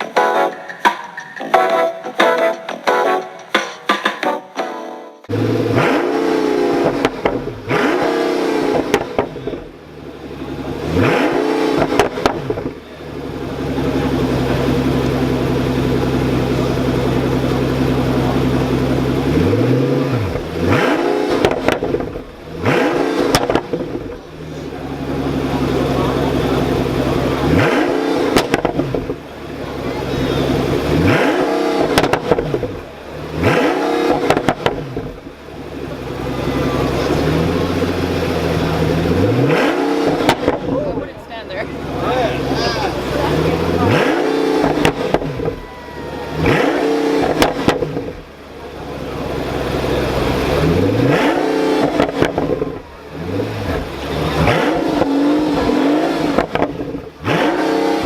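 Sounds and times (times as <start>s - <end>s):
car engine idling and revving: 5.2s - 58.0s
exhaust pops and crackles: 6.6s - 45.7s, 46.4s - 58.0s.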